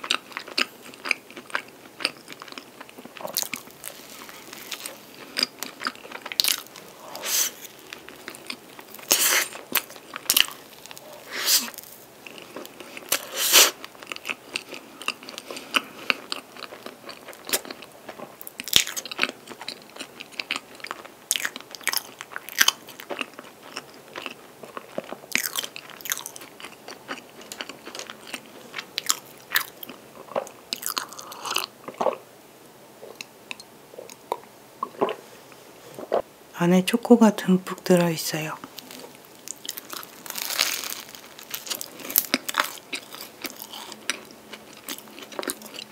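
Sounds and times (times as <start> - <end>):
close-miked chewing: 0.0 - 32.2, 38.6 - 45.9.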